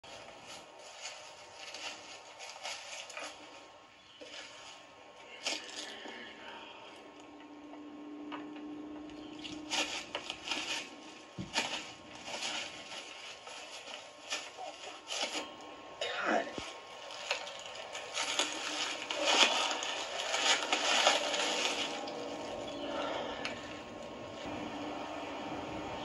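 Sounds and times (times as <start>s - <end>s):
footsteps on dry leaves: 0.0s - 6.6s, 9.2s - 15.6s, 16.5s - 24.6s.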